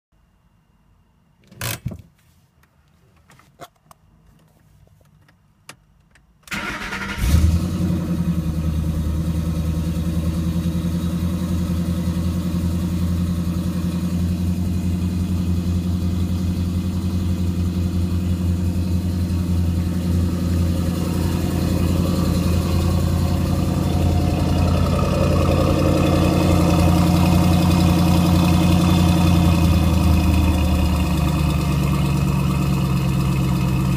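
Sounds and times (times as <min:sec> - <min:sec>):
car engine starting and idling: 0:06.4 - 0:33.9.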